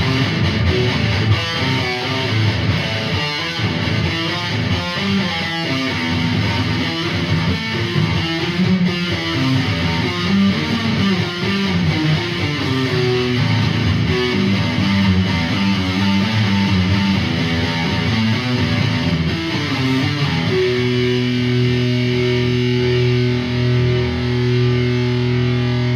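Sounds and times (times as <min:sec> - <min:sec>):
guitar playing: 0:00.0 - 0:25.9.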